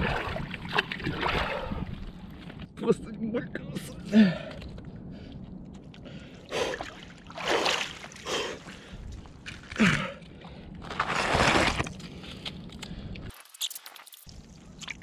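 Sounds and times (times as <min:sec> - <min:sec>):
water splashing and sloshing: 0:00.0 - 0:02.7, 0:04.2 - 0:15.0.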